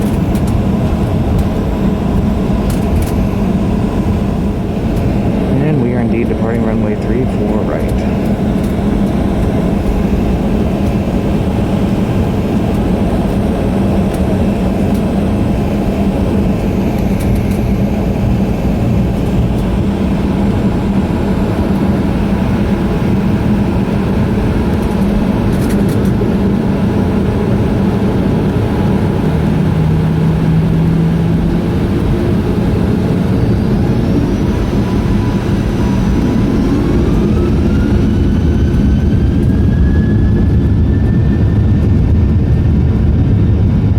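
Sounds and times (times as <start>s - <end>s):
airplane cabin hum: 0.0s - 43.9s
jet engines spooling up: 0.0s - 43.9s.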